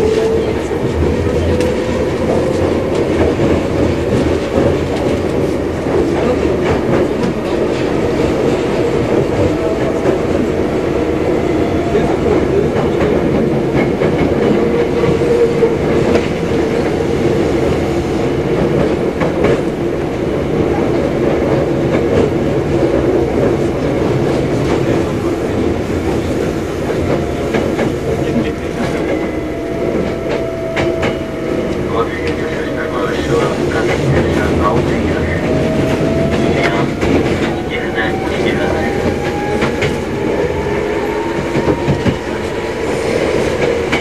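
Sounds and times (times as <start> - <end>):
rail joints clickety-clack: 0.0 - 44.0
train wheels rumbling on rail: 0.0 - 44.0.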